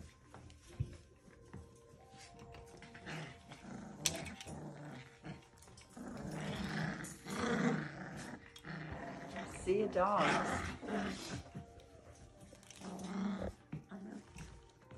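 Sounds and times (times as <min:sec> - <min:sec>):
puppies play-growling: 0:00.0 - 0:14.9.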